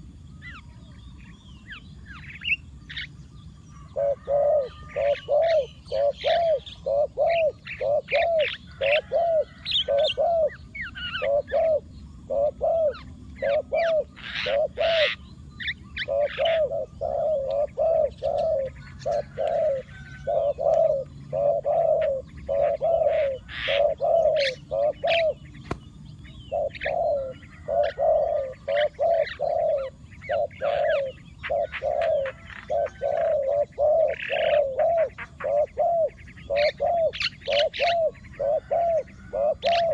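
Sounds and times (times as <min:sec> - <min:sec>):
small birds chirping: 0:00.0 - 0:39.9
dove cooing: 0:02.3 - 0:39.9.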